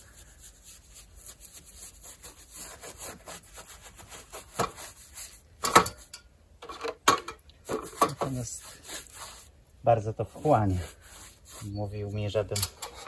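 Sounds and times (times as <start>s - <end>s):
paintbrush scrubbing timber: 0.0s - 6.1s, 7.6s - 12.6s.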